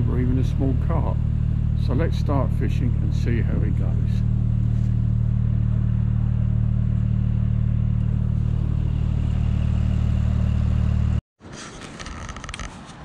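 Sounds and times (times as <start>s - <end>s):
low mechanical drone: 0.0s - 11.2s.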